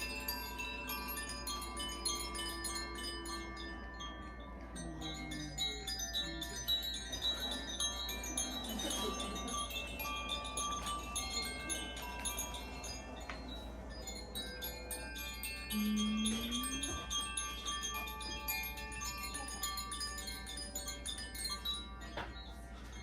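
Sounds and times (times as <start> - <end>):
chimes ringing: 0.0 - 23.0.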